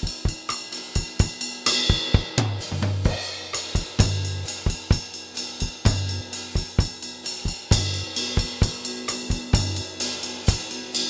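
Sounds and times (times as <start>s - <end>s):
drum kit groove: 0.0s - 11.0s.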